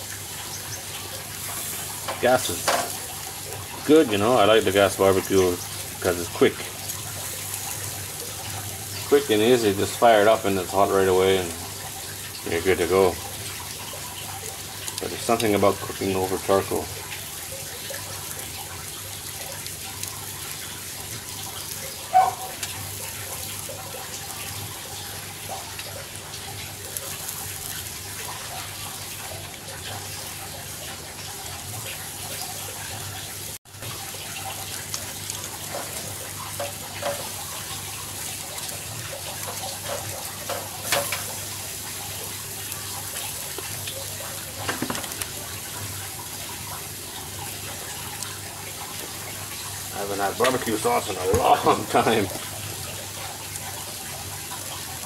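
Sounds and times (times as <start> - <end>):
meat sizzling on a grill: 0.0 - 55.0.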